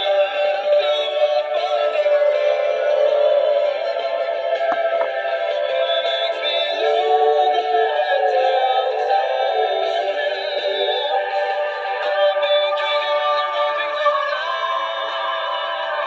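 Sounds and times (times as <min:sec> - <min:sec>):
song through small speaker: 0:00.0 - 0:16.0.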